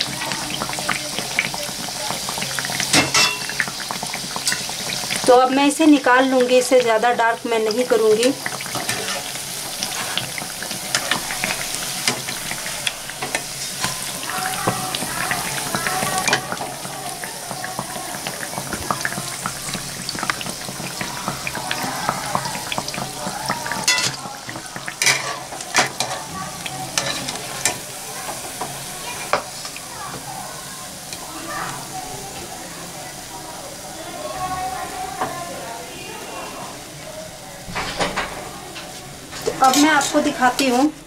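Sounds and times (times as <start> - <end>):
deep-frying sizzle: 0.0 - 41.0.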